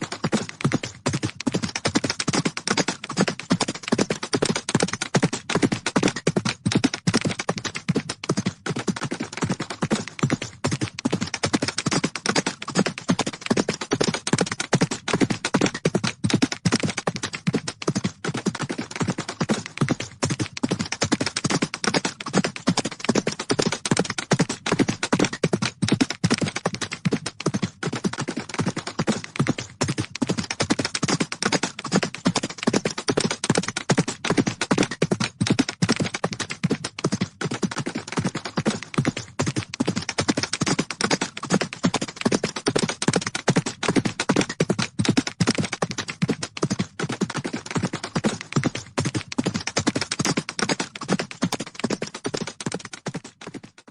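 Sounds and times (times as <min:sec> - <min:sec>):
horses galloping: 0:00.0 - 0:53.9.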